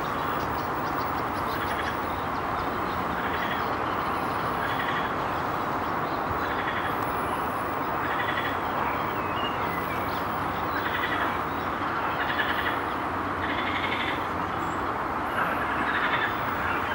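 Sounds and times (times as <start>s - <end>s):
steady background noise: 0.0s - 16.9s.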